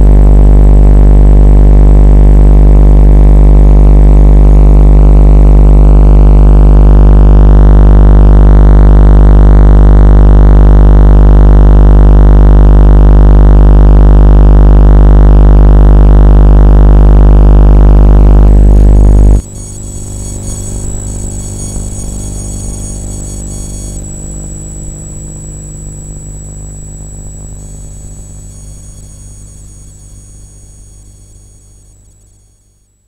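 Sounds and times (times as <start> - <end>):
quiet hum with high whine: 0.0 - 11.7, 12.4 - 33.0
deep electrical buzz: 0.0 - 33.0.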